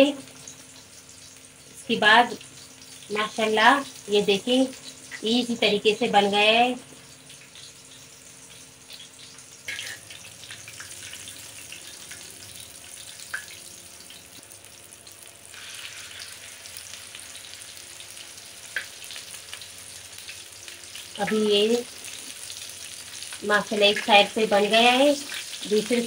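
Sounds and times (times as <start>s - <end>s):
patties sizzling in oil: 0.0s - 26.0s.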